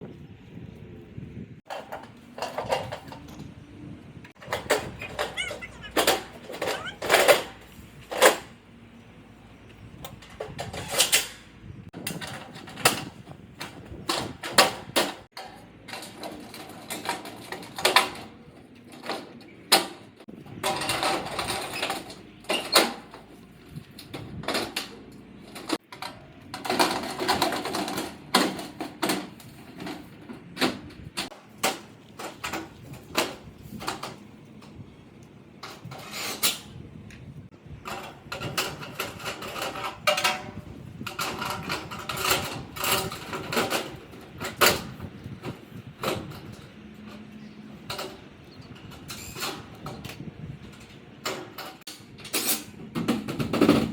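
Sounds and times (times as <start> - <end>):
shutters scraping or sliding: 1.7 - 3.6, 4.3 - 53.9
shutters knocking and clicking: 4.3 - 8.6, 10.0 - 34.8, 37.7 - 53.9.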